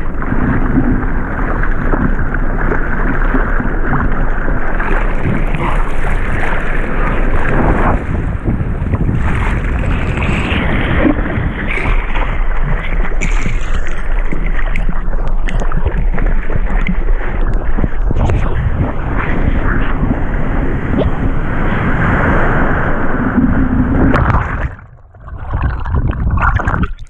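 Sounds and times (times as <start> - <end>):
water rushing and splashing: 0.0 - 27.0
wind buffeting microphone: 0.0 - 27.0.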